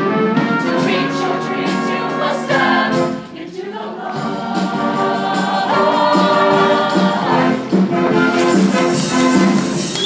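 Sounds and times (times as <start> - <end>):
choir singing in harmony: 0.0 - 9.8.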